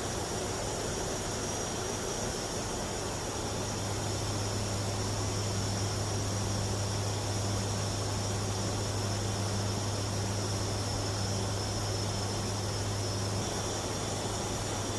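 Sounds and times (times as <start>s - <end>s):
turboprop engines droning: 0.5s - 14.9s.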